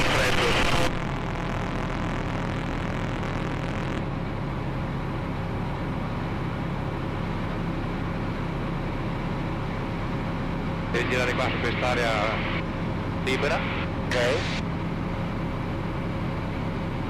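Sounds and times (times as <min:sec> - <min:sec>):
aircraft engine and propeller droning: 0:00.0 - 0:17.0.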